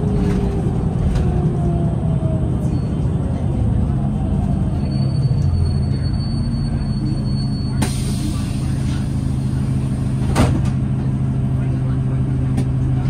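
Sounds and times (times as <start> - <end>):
bus drivetrain rumble: 0.0 - 13.0.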